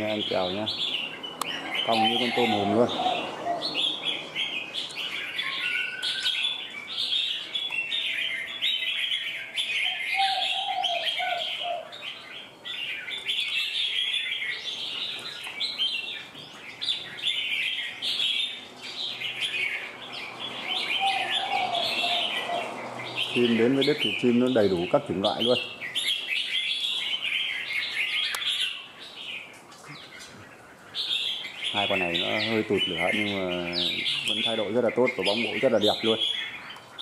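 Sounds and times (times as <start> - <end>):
birds chirping and singing: 0.0 - 37.0.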